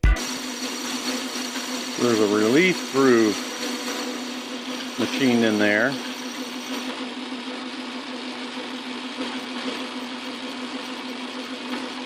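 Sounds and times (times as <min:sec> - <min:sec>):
metal lathe motor humming: 0:00.1 - 0:12.0.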